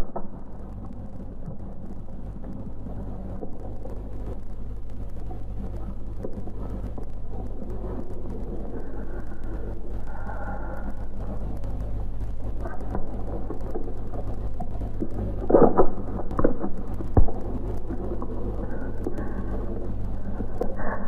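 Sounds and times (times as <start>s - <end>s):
film soundtrack rumble and hiss: 0.0s - 21.0s.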